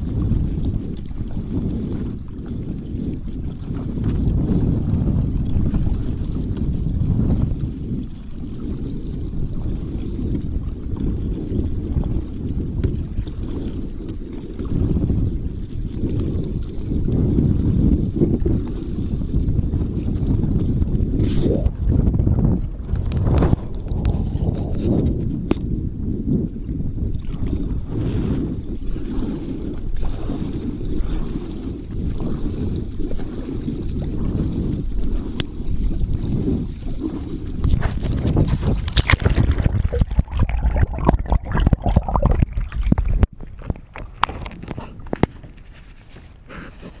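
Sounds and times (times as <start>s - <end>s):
water noise: 0.0s - 47.0s
wind buffeting microphone: 0.0s - 47.0s.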